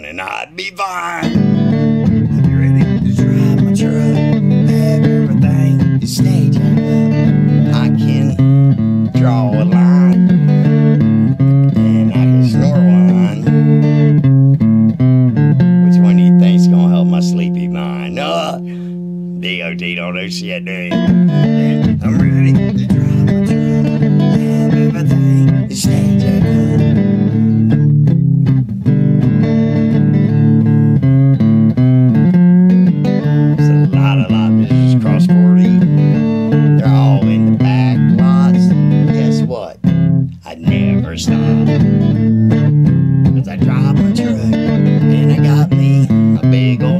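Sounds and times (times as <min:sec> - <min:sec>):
picked guitar notes: 0:00.0 - 0:46.9
bass line: 0:01.0 - 0:46.9.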